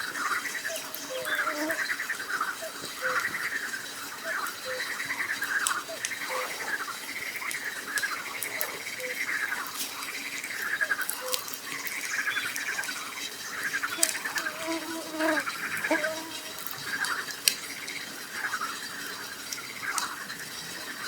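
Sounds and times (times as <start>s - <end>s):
campfire crackling: 0.0s - 21.0s
frogs croaking: 0.0s - 21.0s.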